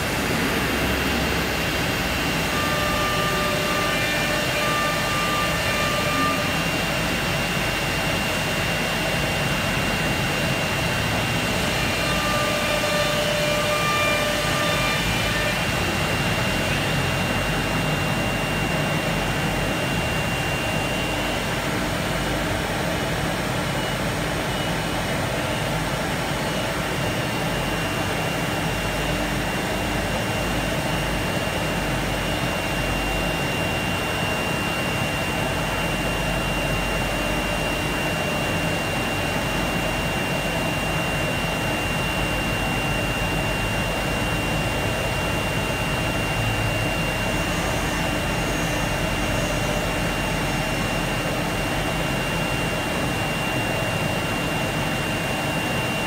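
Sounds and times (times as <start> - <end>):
router spindle whine: 0.0 - 56.0.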